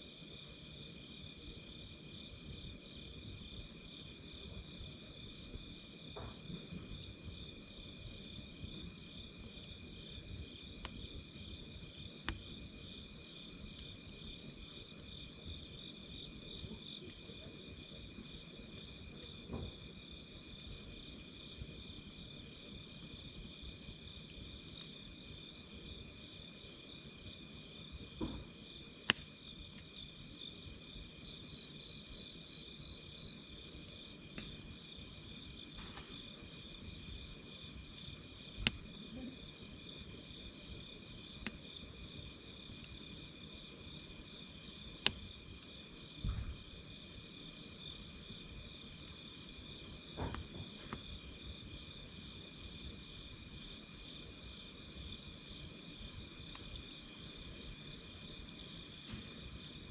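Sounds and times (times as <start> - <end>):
insects chirring: 0.1 - 59.9
campfire crackling and popping: 0.5 - 59.9.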